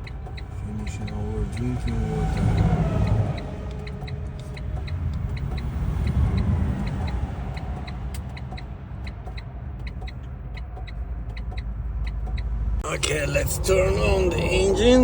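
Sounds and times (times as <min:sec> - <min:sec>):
high ticking: 0:00.0 - 0:15.0
road traffic rumble: 0:00.0 - 0:15.0.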